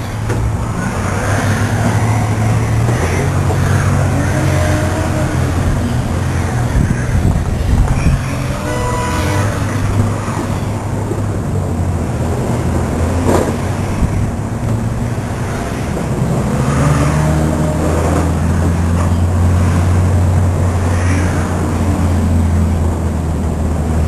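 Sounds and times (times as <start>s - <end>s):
car engine drone: 0.0s - 24.0s.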